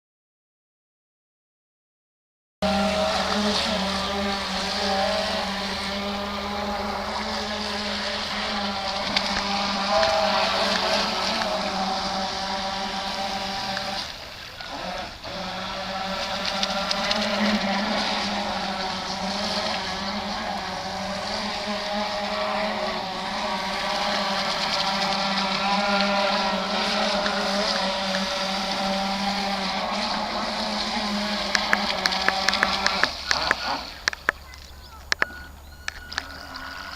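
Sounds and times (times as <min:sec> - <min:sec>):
electric motor whine: 0:02.6 - 0:34.3
water hissing: 0:02.6 - 0:36.9.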